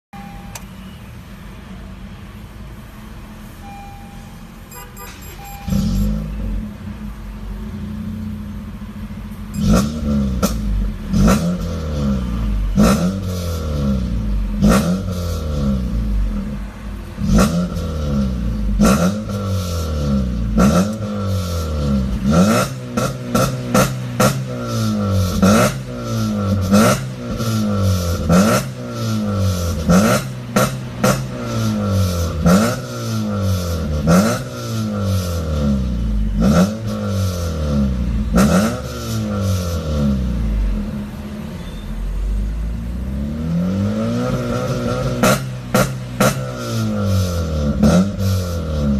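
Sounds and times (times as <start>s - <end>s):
car engine revving in blips: 3.6s - 7.2s, 9.5s - 48.9s.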